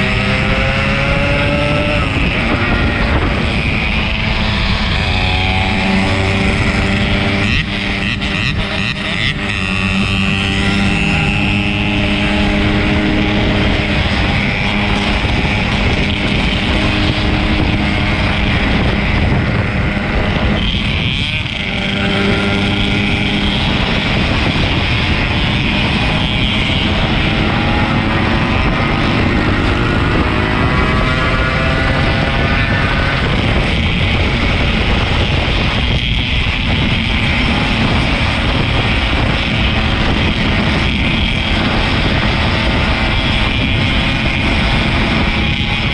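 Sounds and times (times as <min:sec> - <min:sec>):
two-stroke motorcycle engine running: 0:00.0 - 0:45.9
wind on microphone: 0:00.0 - 0:45.9.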